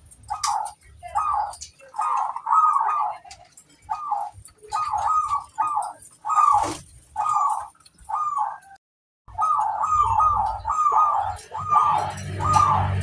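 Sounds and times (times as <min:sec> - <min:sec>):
dove cooing: 0:00.2 - 0:13.0.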